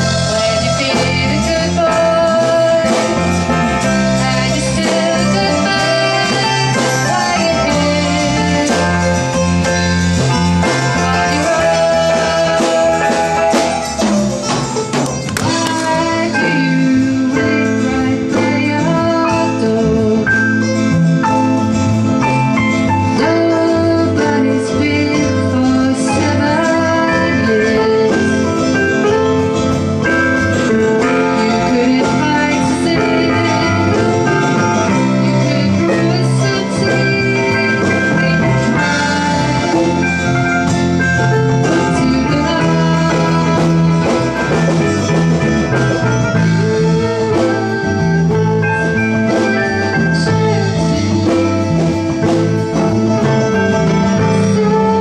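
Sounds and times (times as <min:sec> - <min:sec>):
band rehearsing a song: 0:00.0 - 0:55.0.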